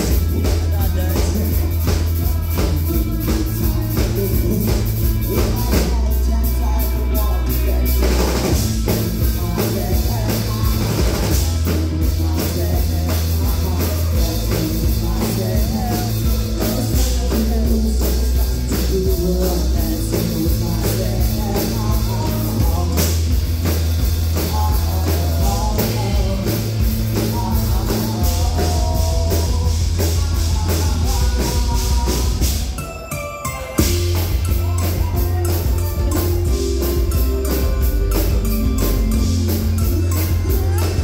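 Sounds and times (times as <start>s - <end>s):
drum kit beat: 0.0s - 41.0s
keyboard: 0.0s - 41.0s
lead singer singing: 0.0s - 41.0s
live rock band playing: 0.0s - 41.0s.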